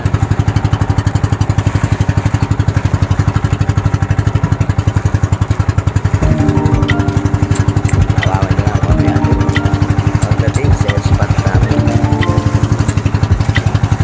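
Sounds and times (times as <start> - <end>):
boat engine puttering: 0.0 - 14.0.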